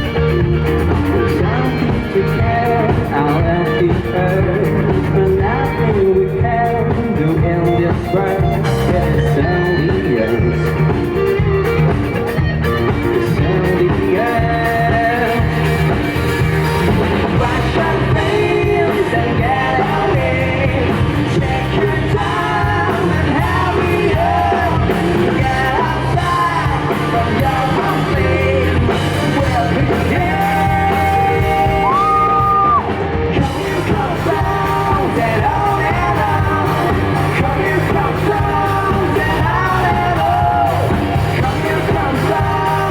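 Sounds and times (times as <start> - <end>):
lead vocal singing: 0.0 - 42.9
rock band playing live: 0.0 - 42.9.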